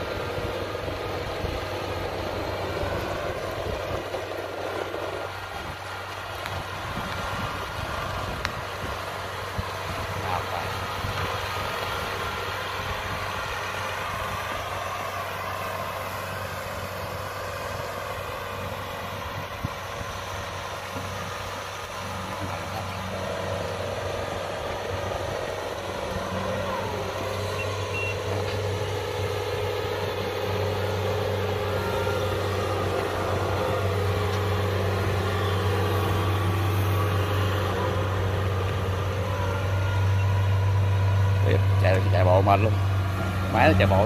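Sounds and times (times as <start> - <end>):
combine harvester diesel engine: 0.0 - 44.0.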